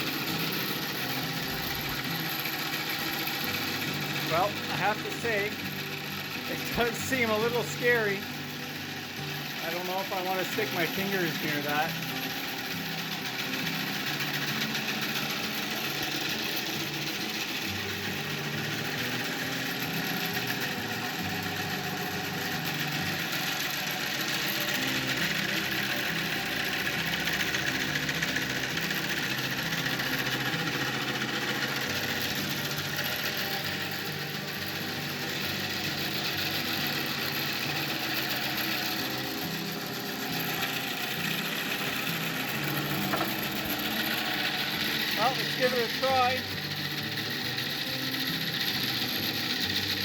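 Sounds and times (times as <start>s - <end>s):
bandsaw running: 0.0s - 50.0s.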